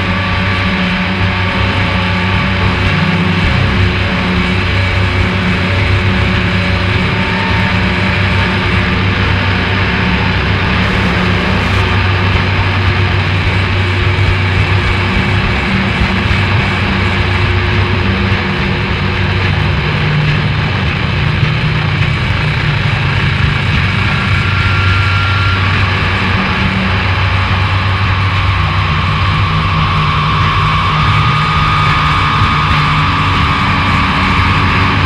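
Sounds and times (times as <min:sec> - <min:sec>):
harsh noise music: 0:00.0 - 0:35.0.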